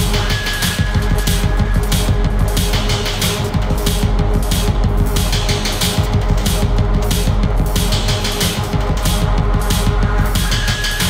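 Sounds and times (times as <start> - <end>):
aggressive music with fast beat: 0.0 - 11.0.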